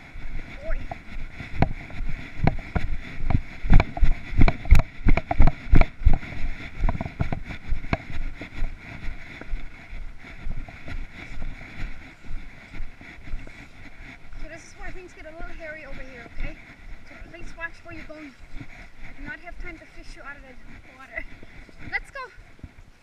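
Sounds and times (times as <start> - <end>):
footsteps on grass and leaves: 0.0 - 22.8.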